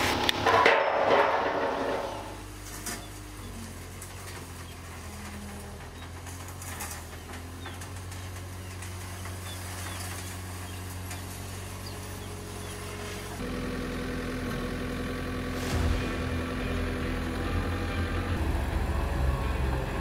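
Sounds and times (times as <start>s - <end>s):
diesel engine idling: 1.7s - 20.0s.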